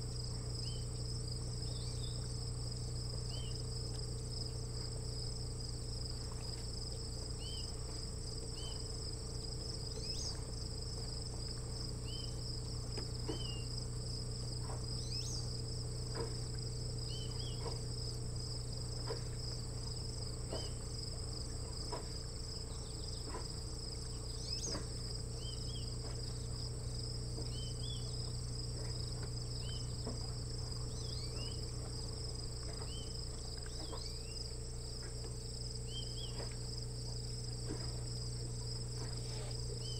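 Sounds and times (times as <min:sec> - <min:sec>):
crickets trilling: 0:00.0 - 0:39.9
low hum: 0:00.0 - 0:39.9.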